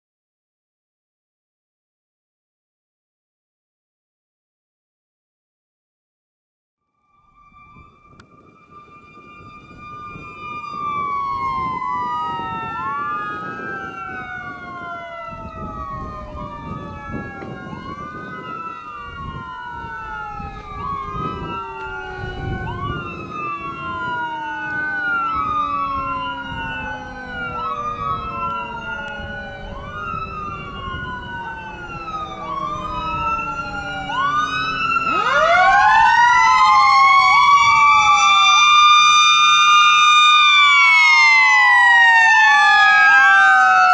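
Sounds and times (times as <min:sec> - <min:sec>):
electronic siren sweeping: 0:06.9 - 0:43.9.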